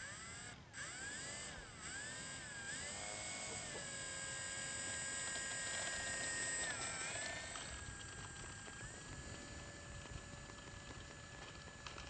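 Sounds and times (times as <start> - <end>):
electric motor and propeller whine: 0.0 - 12.0.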